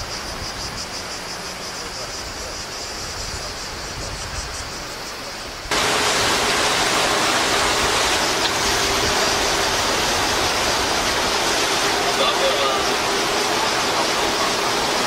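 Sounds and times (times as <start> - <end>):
steady hiss: 0.0 - 15.0
water and wind rushing: 0.0 - 15.0.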